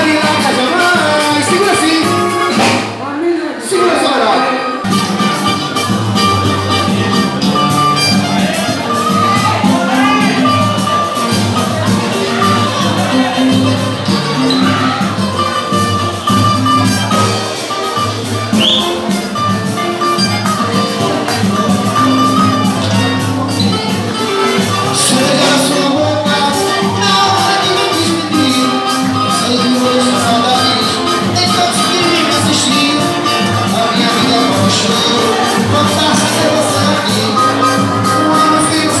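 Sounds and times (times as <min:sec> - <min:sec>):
live band music: 0:00.0 - 0:39.0.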